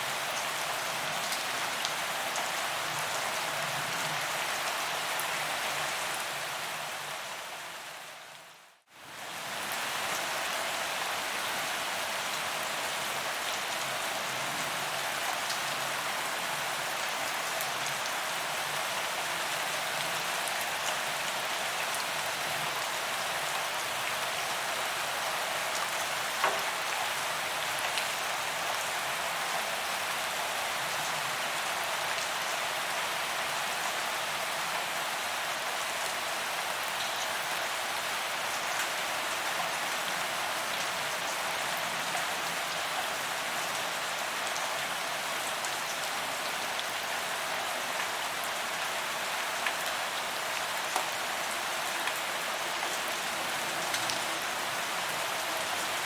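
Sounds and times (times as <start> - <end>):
rain on pavement: 0.0 - 8.4, 9.0 - 56.0.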